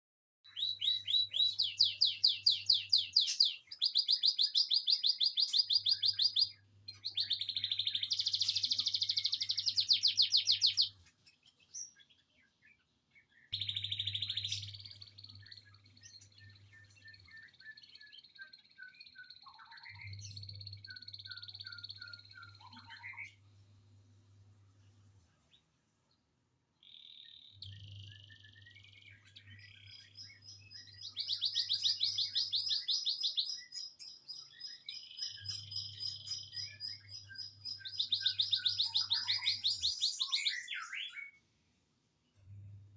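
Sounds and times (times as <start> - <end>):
quiet high birdsong: 0.4 - 42.9
songbird trilling: 0.5 - 11.0, 13.6 - 23.4, 26.8 - 41.3.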